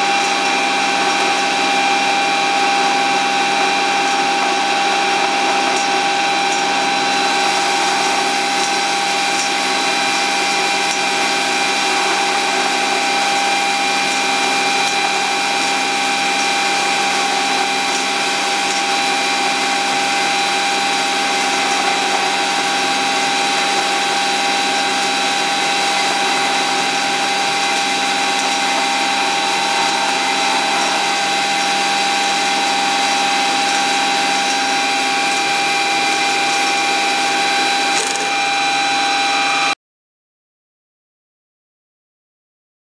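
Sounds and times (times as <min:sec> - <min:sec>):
band saw humming and whining: 0:00.0 - 0:39.8.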